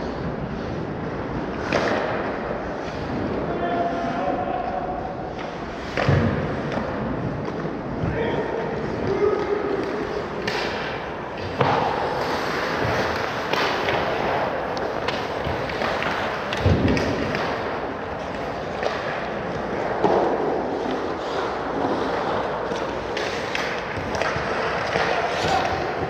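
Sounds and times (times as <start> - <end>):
skates scraping on ice: 0.0 - 26.0.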